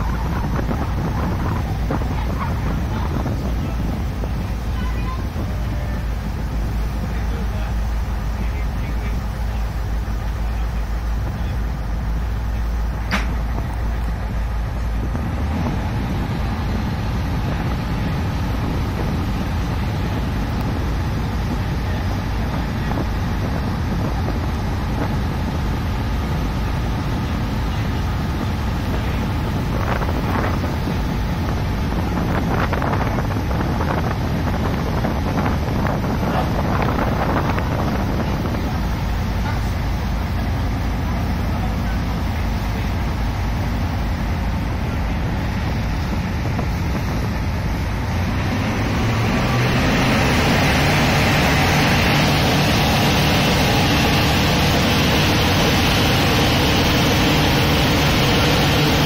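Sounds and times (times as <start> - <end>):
boat engine and water noise: 0.0 - 59.0.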